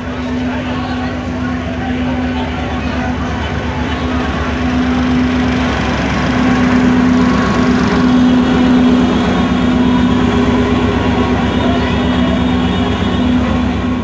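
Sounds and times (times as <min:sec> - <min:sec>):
diesel train engine idling: 0:00.0 - 0:14.0.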